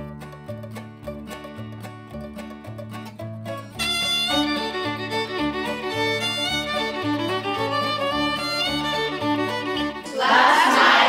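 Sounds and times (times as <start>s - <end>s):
fiddle music: 0.0s - 11.0s.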